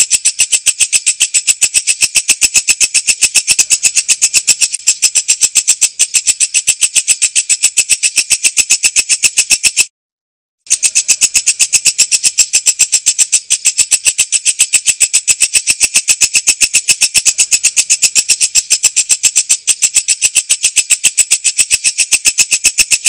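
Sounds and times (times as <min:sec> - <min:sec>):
katydid stridulating: 0:00.0 - 0:09.9, 0:10.7 - 0:23.0.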